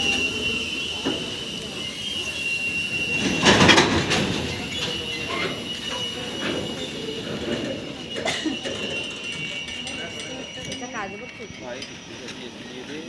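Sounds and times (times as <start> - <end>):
train clatter: 0.0 - 13.0
train rumble: 0.0 - 13.0
train wheels squealing on rails: 0.0 - 13.0.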